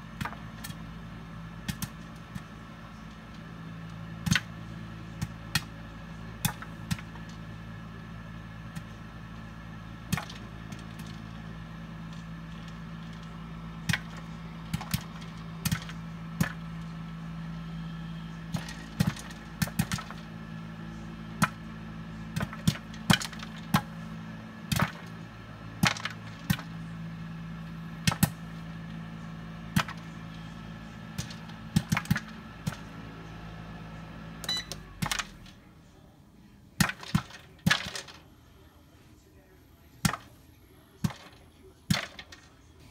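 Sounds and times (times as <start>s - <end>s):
popcorn popping: 0.0s - 35.7s, 36.6s - 38.4s, 40.0s - 42.9s
cooker humming: 0.0s - 42.9s.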